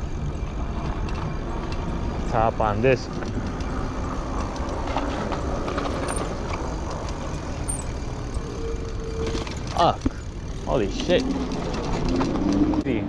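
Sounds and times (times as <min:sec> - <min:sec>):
bicycle rumbling on concrete: 0:00.0 - 0:13.0.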